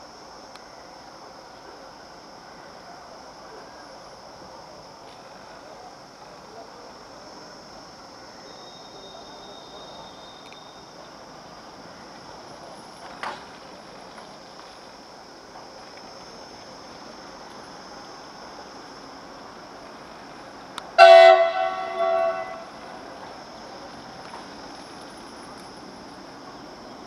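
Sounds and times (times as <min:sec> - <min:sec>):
crickets buzzing: 0:00.0 - 0:27.0.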